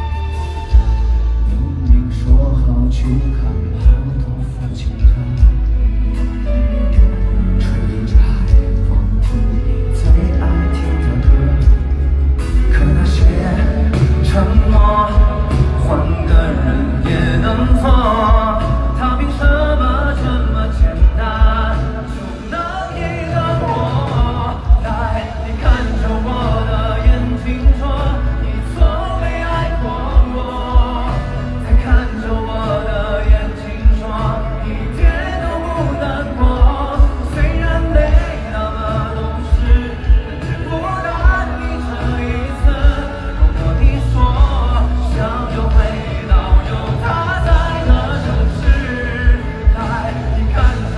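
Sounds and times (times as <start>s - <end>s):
live pop band playing: 0.0s - 50.9s
person singing: 0.0s - 50.9s.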